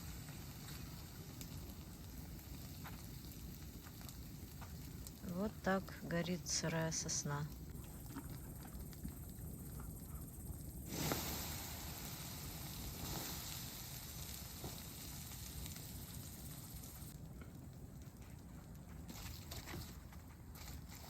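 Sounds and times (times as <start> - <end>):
steam hissing from doused fire: 0.0 - 17.8, 19.0 - 21.0.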